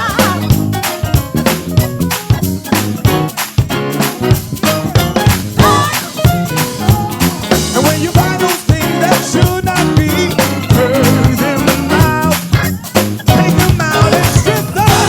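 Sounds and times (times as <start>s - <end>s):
upbeat gospel band music: 0.0s - 15.0s.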